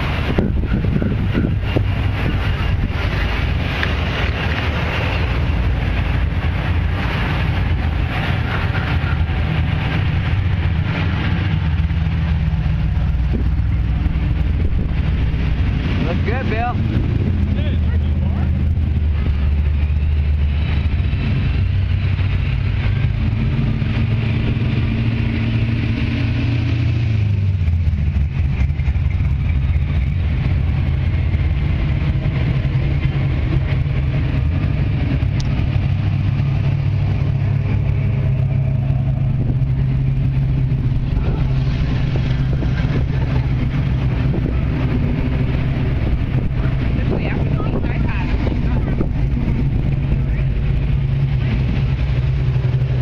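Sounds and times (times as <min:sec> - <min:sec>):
car and motorcycle engines rumbling: 0:00.0 - 0:53.0.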